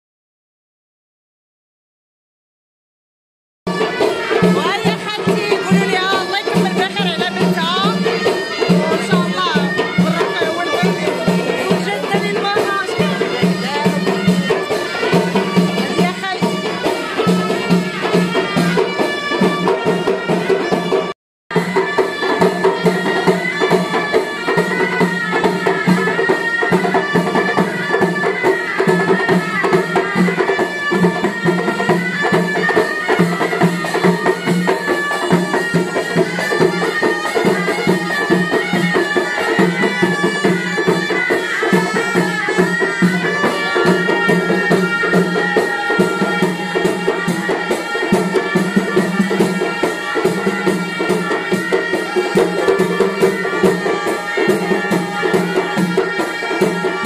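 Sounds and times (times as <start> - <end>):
fast drumming and percussion: 3.7 - 57.0
reedy wind instruments melody: 3.7 - 57.0.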